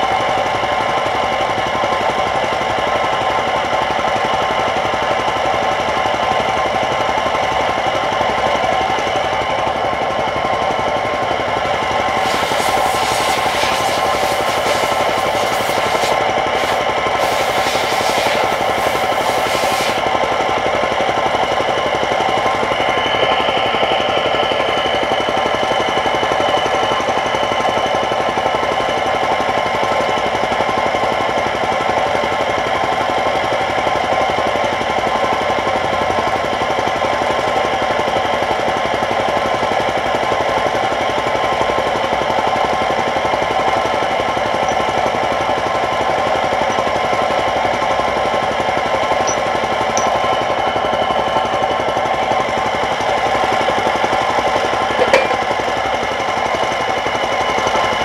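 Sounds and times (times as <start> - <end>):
engine running with fast chatter: 0.0 - 58.0.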